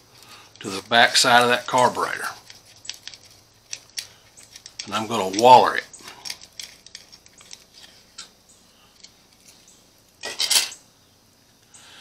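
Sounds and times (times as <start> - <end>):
wires clinking: 0.0 - 10.8.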